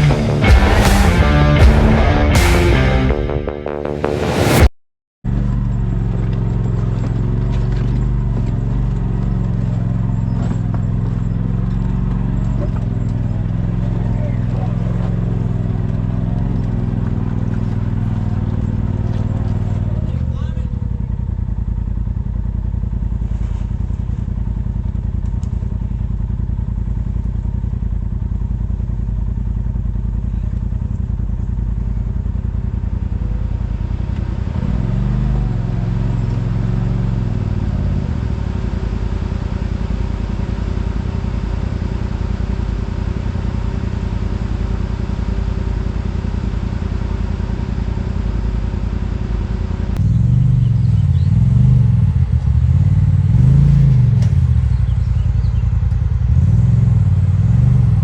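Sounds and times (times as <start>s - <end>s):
vehicle engine running: 0.0s - 4.7s, 5.3s - 58.0s.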